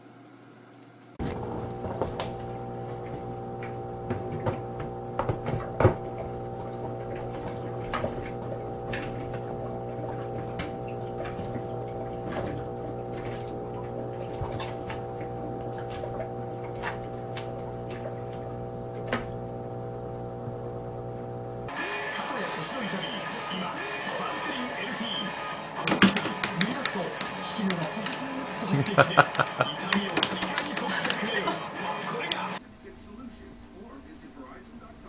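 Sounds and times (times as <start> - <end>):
humidifier fan hum: 0.0 - 25.9, 28.6 - 35.0.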